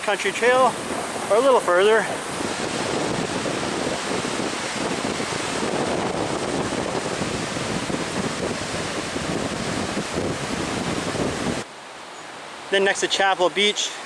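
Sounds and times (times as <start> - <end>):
wind buffeting microphone: 0.0 - 11.7
lake surf washing: 0.0 - 14.0.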